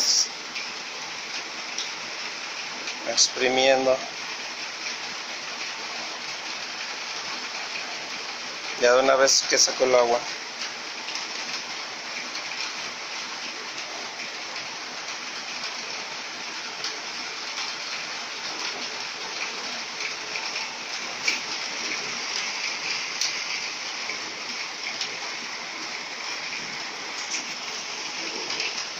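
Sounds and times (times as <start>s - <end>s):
washing machine spinning: 0.0s - 28.9s
water rushing: 0.0s - 28.9s.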